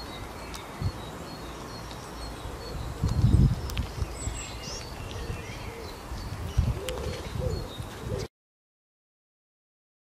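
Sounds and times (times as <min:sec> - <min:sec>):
songbirds chirping: 0:00.0 - 0:08.3.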